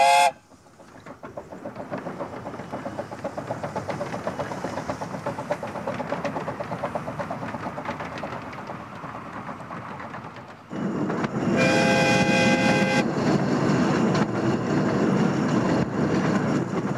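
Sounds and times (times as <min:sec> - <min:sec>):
steam locomotive chuffing: 0:00.0 - 0:16.9.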